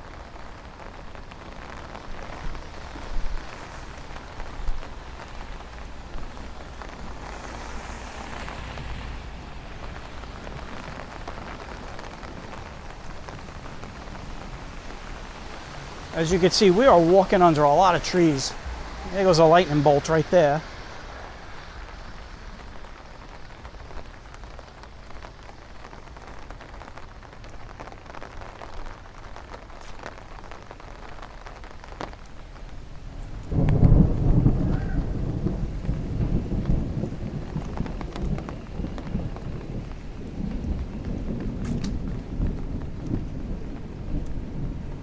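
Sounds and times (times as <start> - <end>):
rain hiss: 0.0 - 45.0
thunder clap and rumble: 0.0 - 45.0.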